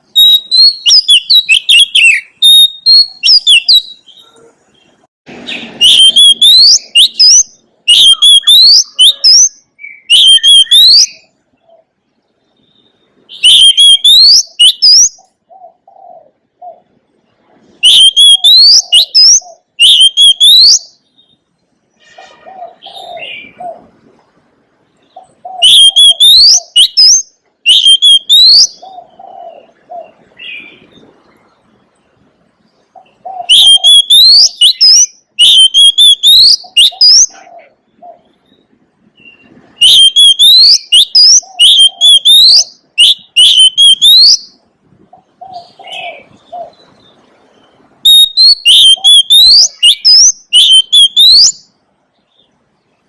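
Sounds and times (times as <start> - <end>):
bird singing whistled notes: 0.0 - 15.8, 17.8 - 23.8, 25.0 - 31.0, 32.9 - 37.4, 38.2 - 44.6, 45.4 - 52.5.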